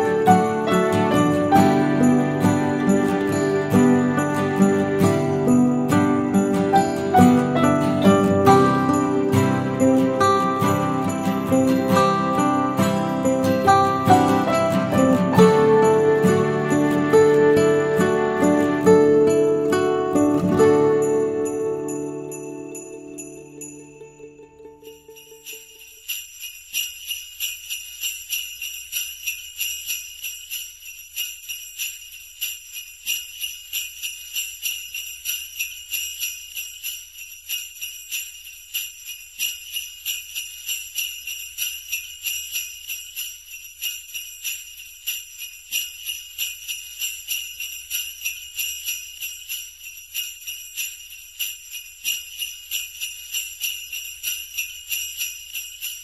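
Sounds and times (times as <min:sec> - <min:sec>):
sleigh bells shaken in rhythm: 0:00.0 - 0:56.0.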